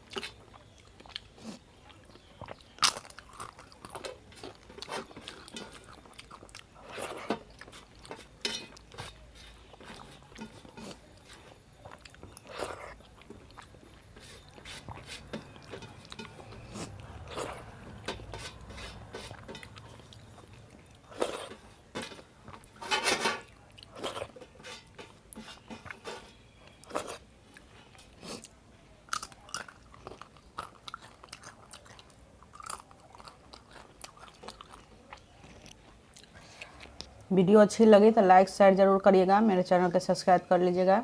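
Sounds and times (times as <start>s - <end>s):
person chewing crunchy food: 0.0s - 37.2s.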